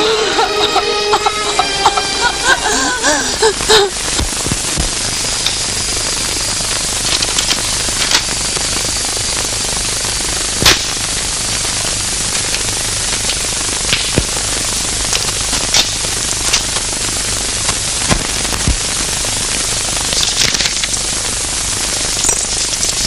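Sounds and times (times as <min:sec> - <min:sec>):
film soundtrack hiss and hum: 0:00.0 - 0:23.0
crackles and pops: 0:02.0 - 0:23.0.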